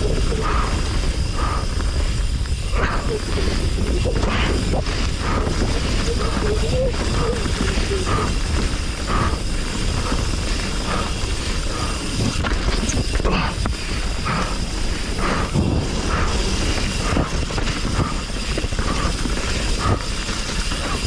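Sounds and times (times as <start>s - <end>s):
bike knocks and rattles: 0.0s - 21.0s
tyres rumbling over dirt: 0.0s - 21.0s
wind buffeting microphone: 0.0s - 21.0s.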